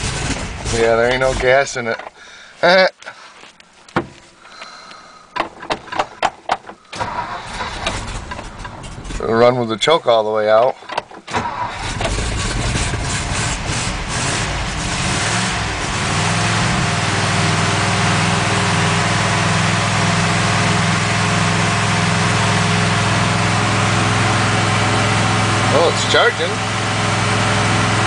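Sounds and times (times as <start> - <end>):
cold car engine running fast: 0.0 - 1.9, 5.9 - 9.9, 11.3 - 28.0.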